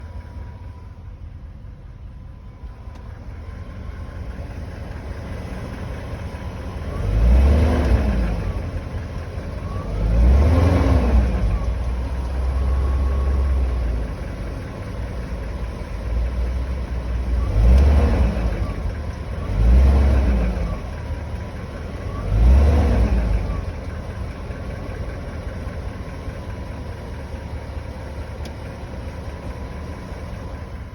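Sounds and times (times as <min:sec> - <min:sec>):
car engine idling and revving: 0:00.0 - 0:30.9
engine knocking: 0:00.0 - 0:30.9.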